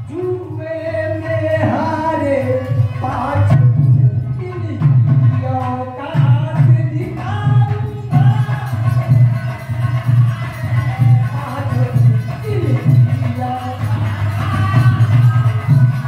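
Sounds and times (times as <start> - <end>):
man singing through microphone: 0.0 - 16.0
hand drum rhythm: 1.6 - 16.0.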